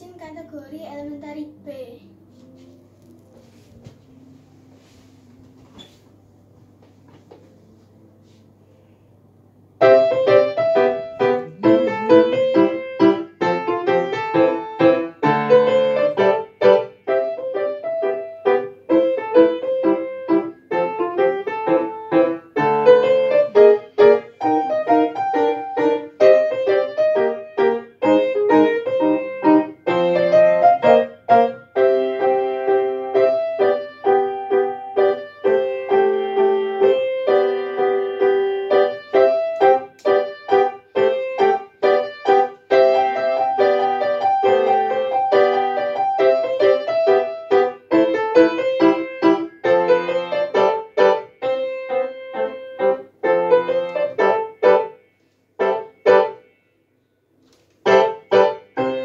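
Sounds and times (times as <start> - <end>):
grand piano playing: 9.6 - 55.0, 55.6 - 56.6, 57.8 - 59.0.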